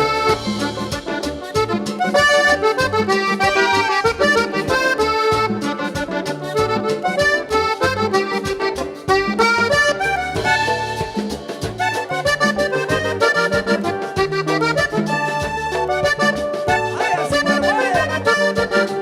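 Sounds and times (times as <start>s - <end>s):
accordion melody: 0.0s - 19.0s
pulsing bass line: 0.0s - 19.0s
steady percussion: 0.0s - 19.0s.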